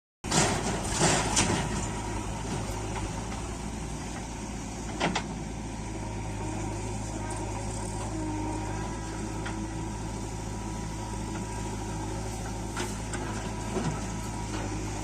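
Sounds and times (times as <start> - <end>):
heavy machinery diesel engine: 0.2 - 15.0.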